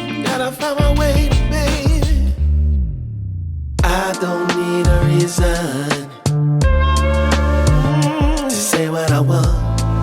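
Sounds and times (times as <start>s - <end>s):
pop r and b music: 0.0s - 2.5s, 3.8s - 10.0s.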